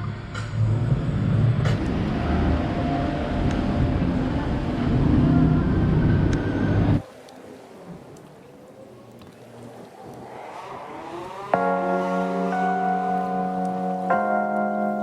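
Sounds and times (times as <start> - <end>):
traffic engine rumble: 0.0 - 15.0.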